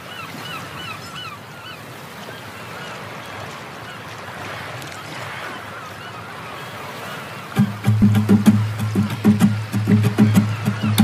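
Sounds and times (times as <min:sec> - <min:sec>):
gulls calling: 0:00.0 - 0:11.0
sea waves washing: 0:00.0 - 0:11.0.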